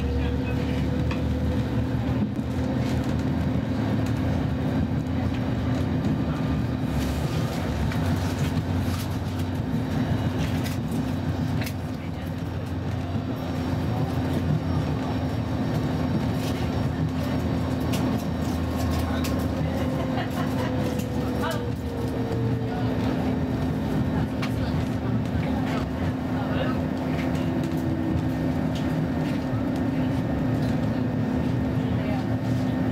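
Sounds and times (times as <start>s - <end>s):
wheels rumbling on rail: 0.0s - 32.9s.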